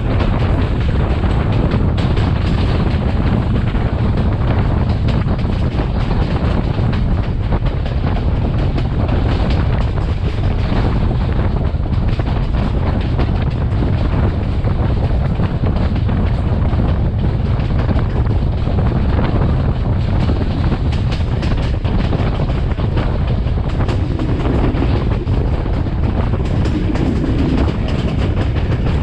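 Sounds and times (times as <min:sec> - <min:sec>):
train rumbling at speed: 0:00.0 - 0:29.0
wind buffeting microphone: 0:00.0 - 0:29.0.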